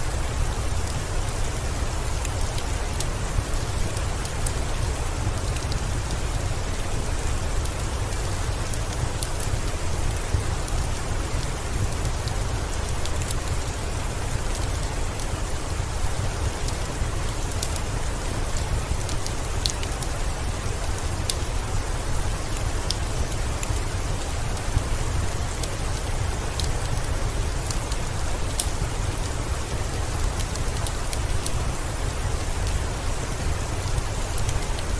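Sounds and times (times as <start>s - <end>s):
heavy rain: 0.0s - 34.9s
wood fire crackling: 0.0s - 34.9s.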